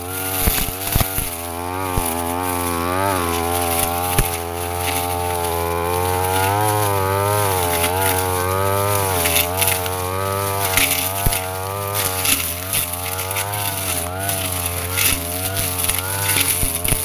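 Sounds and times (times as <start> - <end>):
blade ticking on stems: 0.0 - 17.0
brush cutter engine running: 0.0 - 17.0.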